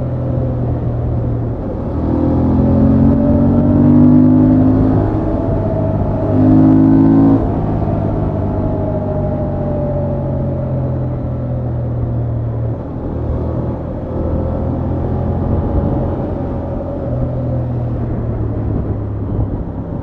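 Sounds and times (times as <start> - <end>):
motorcycle engine riding: 0.0 - 20.0.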